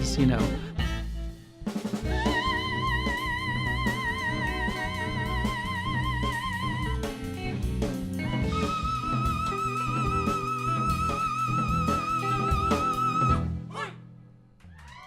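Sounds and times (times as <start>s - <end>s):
band music: 0.0s - 13.6s.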